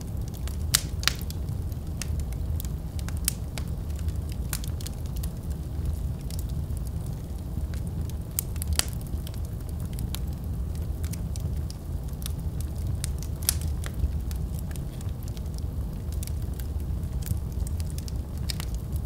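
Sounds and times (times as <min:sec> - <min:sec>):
fire crackling and popping: 0:00.0 - 0:19.0
fire rumbling: 0:00.0 - 0:19.0.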